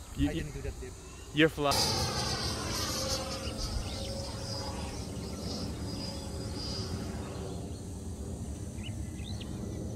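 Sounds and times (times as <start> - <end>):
distant rc jet whine: 0.0 - 9.9
wind rumbling on microphone: 1.7 - 9.9.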